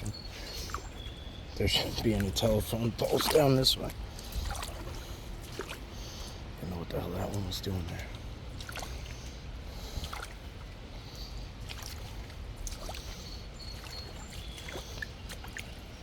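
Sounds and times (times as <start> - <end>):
footsteps wading through water: 0.0 - 16.0.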